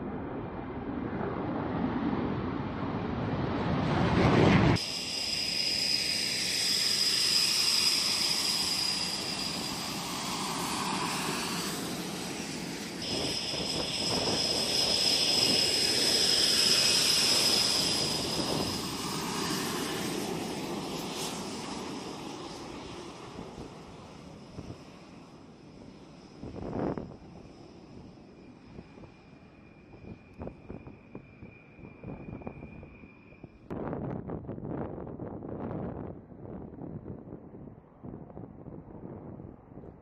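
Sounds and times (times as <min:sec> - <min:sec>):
jet engines roaring: 0:00.0 - 0:33.7
jet engine whine: 0:00.0 - 0:40.0.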